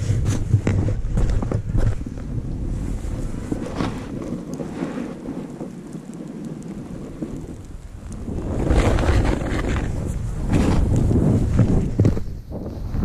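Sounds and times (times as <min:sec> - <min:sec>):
snowboard sliding through powder: 0:00.0 - 0:13.0
wind rumbling on microphone: 0:00.0 - 0:13.0.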